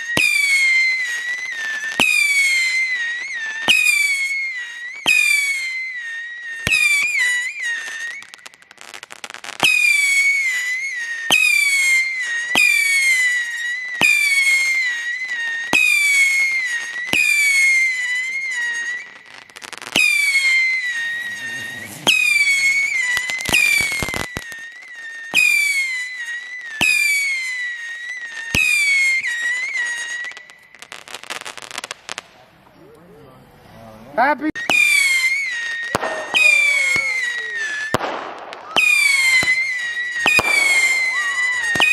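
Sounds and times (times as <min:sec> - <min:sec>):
whistling firework shots: 0:00.0 - 0:33.8, 0:34.4 - 0:41.9
firework crackling: 0:00.0 - 0:41.9.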